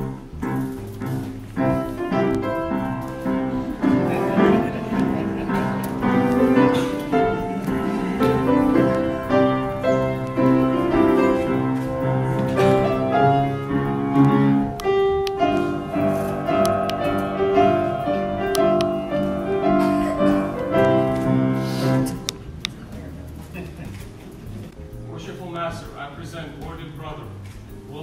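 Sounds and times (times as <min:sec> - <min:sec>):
slow keyboard music: 0:00.0 - 0:28.0.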